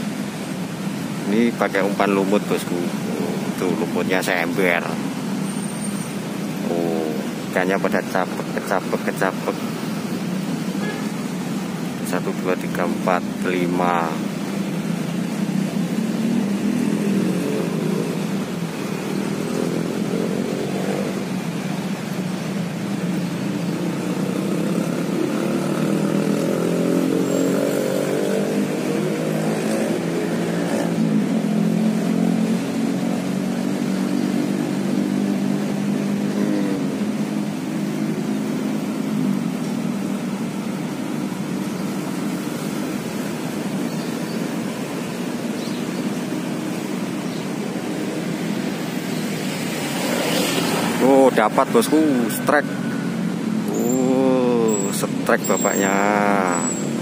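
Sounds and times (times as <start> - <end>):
car engines passing: 0.0 - 57.0
motorcycle engines passing: 0.0 - 57.0.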